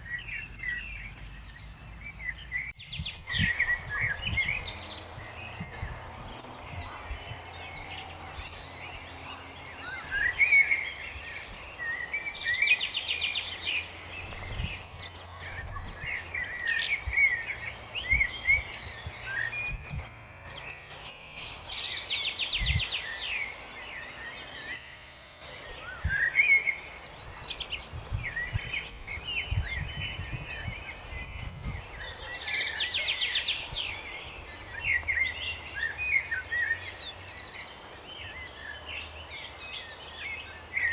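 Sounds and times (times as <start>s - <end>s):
songbirds chirping and whistling: 0.0s - 40.9s
rapid bird trill: 3.3s - 40.9s.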